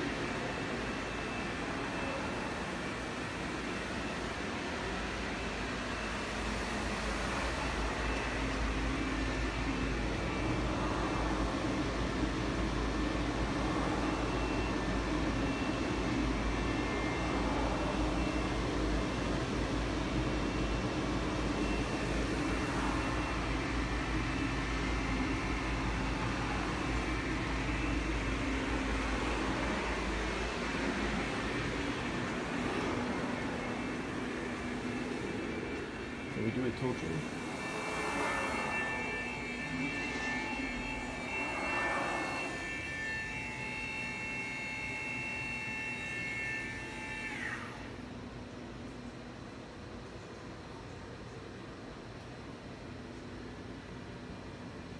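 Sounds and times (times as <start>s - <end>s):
faint high whine: 0.0s - 54.9s
machine mechanical hum: 0.0s - 54.9s.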